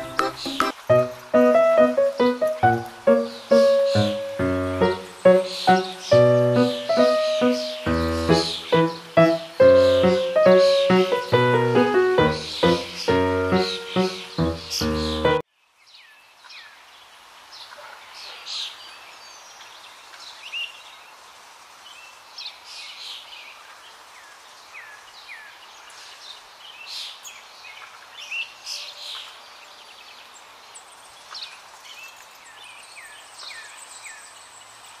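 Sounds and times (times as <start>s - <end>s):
small birds chirping: 0.0s - 21.0s, 21.8s - 35.0s
steady background hiss: 0.0s - 35.0s.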